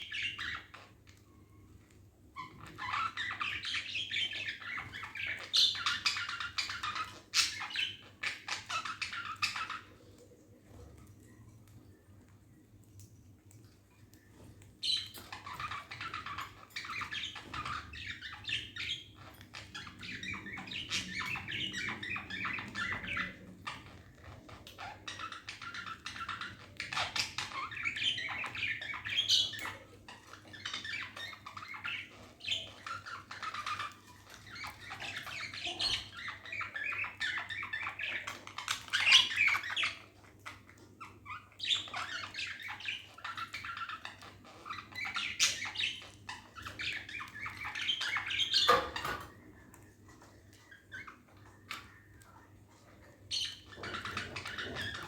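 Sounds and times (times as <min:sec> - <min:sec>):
budgies chirping and chattering: 0:00.0 - 0:55.0.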